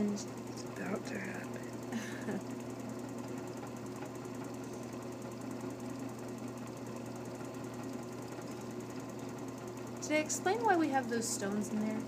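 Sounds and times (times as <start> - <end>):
vacuum pump chugging: 0.0 - 12.0.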